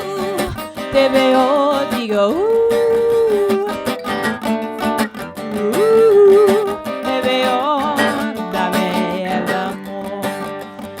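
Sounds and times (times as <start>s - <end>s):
woman singing long wavering notes: 0.0s - 4.0s, 5.4s - 10.5s
strummed acoustic guitar: 0.0s - 11.0s.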